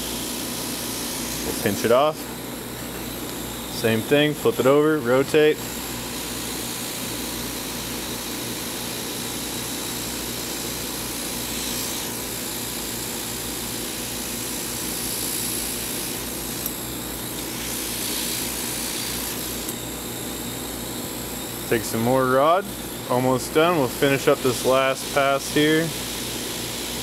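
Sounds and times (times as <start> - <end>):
hot-air welder blowing: 0.0 - 27.0.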